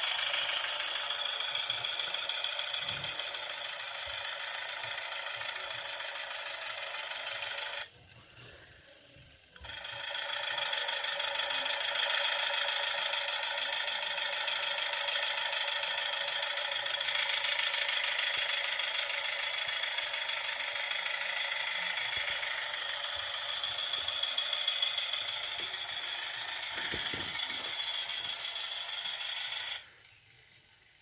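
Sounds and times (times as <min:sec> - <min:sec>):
recorded van engine idling on speaker: 0:00.0 - 0:31.0.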